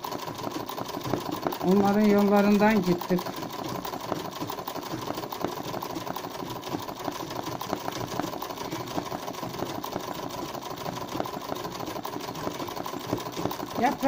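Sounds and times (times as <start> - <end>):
sewing machine running: 0.0 - 14.0.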